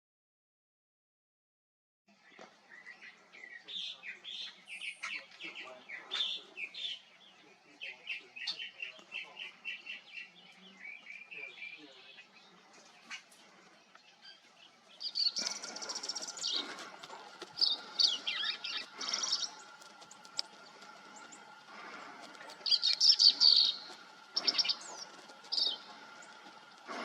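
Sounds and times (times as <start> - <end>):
bird singing: 2.1 - 27.0.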